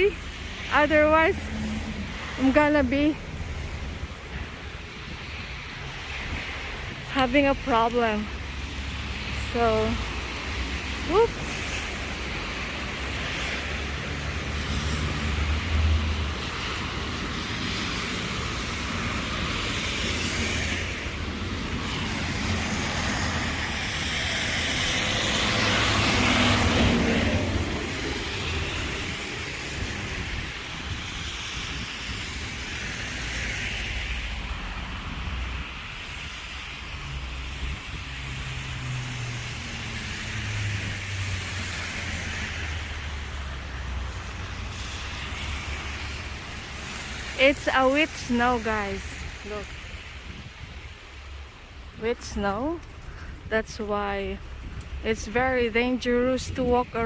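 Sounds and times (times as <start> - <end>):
low traffic rumble: 0.0 - 57.0
tyres hissing on wet road: 0.0 - 57.0.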